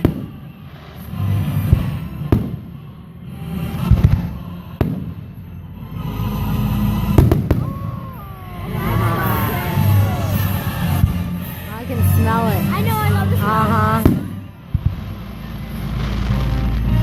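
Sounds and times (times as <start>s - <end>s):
fireworks bangs: 0.0s - 5.6s, 6.4s - 17.0s.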